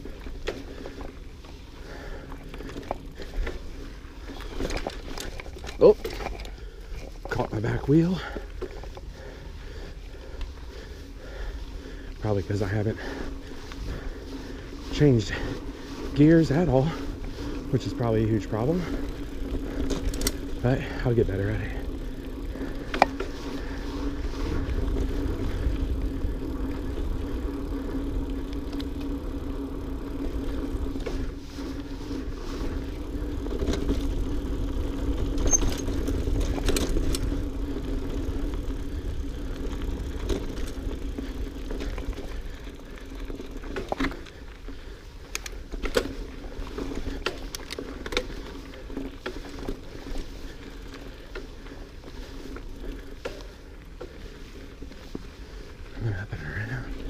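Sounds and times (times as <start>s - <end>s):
bike clicking and rattling: 0.0s - 57.0s
bike tyres rolling on dirt: 0.0s - 57.0s.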